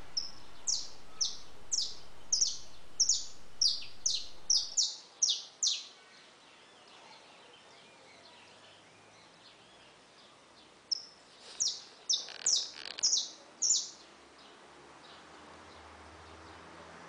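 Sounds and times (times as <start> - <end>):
small songbirds chirping: 0.0 - 17.0.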